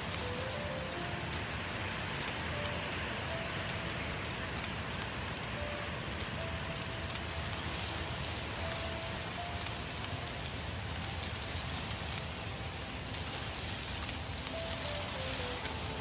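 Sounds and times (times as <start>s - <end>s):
faint long-held music notes: 0.0s - 16.0s
fire crackles and pops: 0.0s - 16.0s
rush of fire burning: 0.0s - 16.0s.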